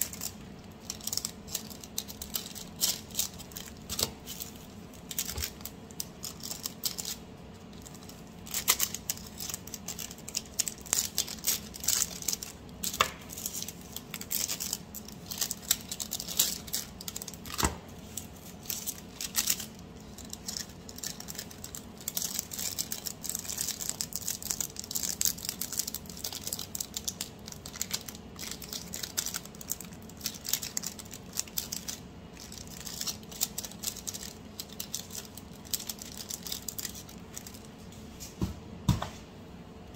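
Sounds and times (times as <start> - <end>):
plastic bags crinkling: 0.0 - 37.8.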